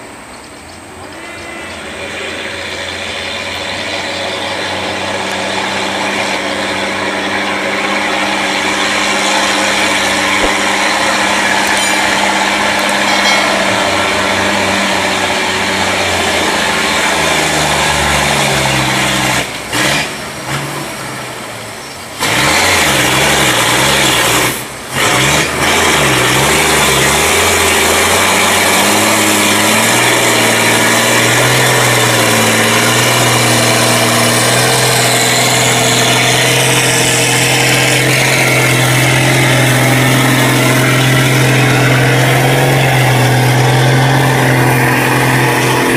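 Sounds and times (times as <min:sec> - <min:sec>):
diesel truck engine passing: 0:00.0 - 0:45.9.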